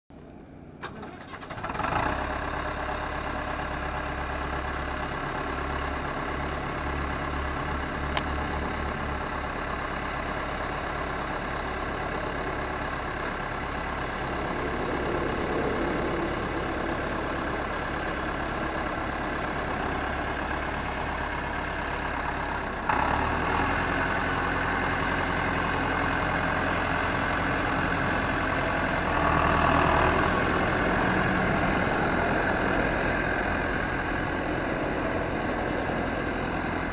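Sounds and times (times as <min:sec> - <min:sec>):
tractor diesel engine: 0:00.1 - 0:36.9.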